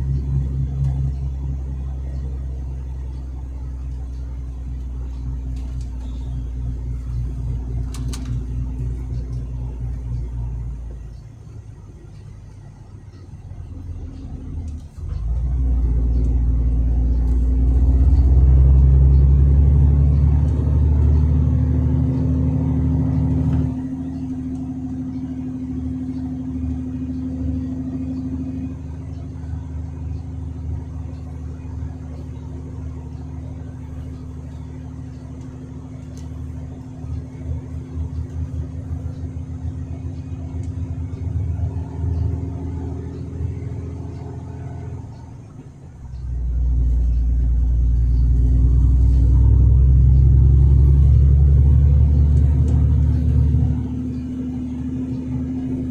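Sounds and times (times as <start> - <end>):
truck diesel engine under load: 0.0 - 55.9.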